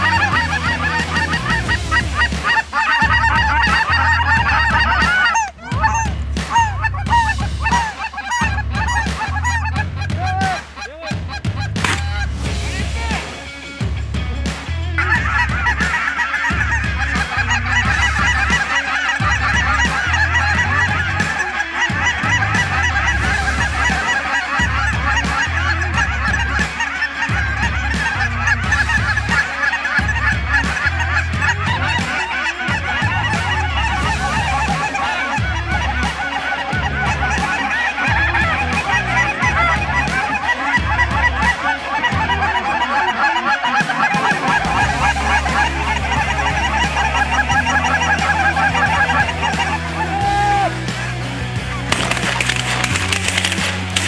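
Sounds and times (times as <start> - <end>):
geese cackling: 0.0 - 13.6, 14.5 - 54.0.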